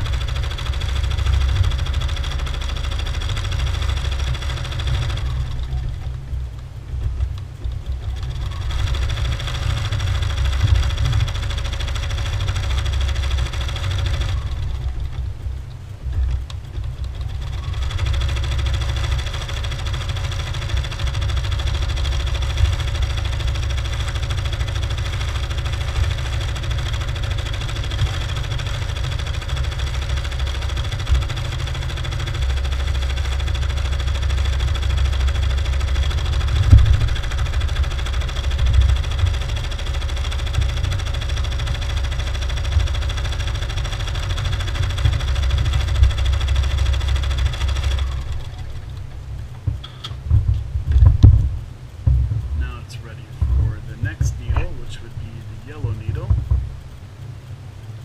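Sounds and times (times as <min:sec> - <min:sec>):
embroidery machine running: 0:00.0 - 0:58.0.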